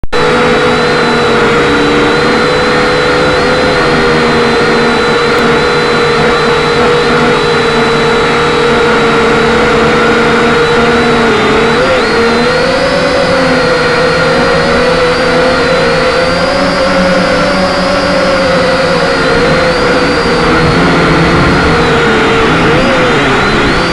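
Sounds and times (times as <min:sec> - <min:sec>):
quadcopter motors droning: 0:00.0 - 0:23.9.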